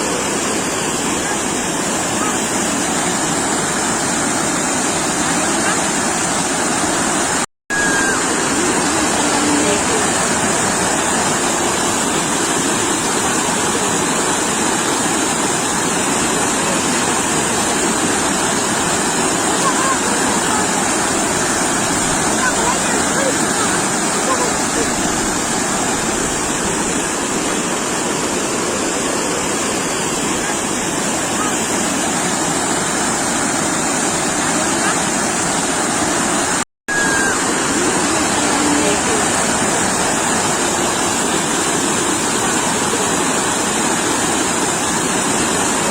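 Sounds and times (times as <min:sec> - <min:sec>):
surf breaking on a beach: 0:00.0 - 0:45.9
waves washing on shore: 0:00.0 - 0:45.9.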